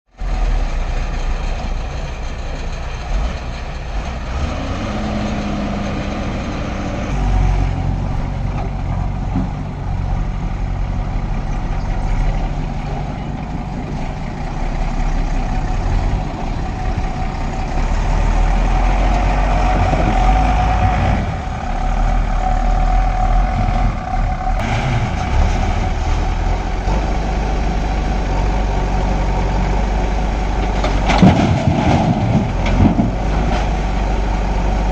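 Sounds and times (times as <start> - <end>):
backhoe diesel engine running: 0.1 - 34.9.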